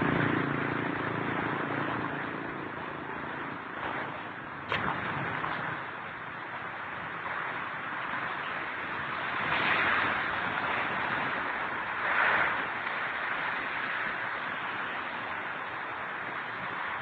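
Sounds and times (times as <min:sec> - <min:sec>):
strong wind rushing in gusts: 0:00.0 - 0:17.0.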